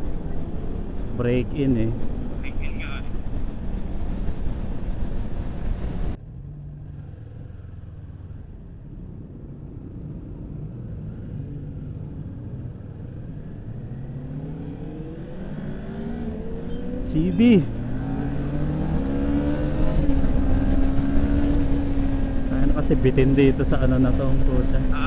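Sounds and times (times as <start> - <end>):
motorcycle engine hum: 0.0 - 25.0.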